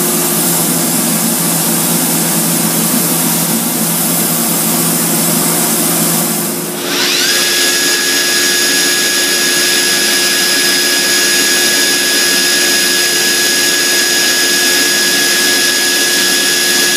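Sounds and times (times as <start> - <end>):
machine noise: 0.0 - 16.9
router spindle high whine: 0.0 - 16.9.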